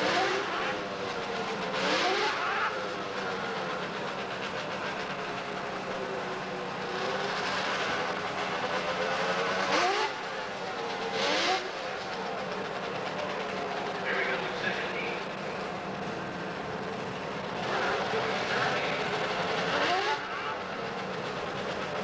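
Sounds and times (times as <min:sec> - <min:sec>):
snowmobile engines revving: 0:00.0 - 0:22.0.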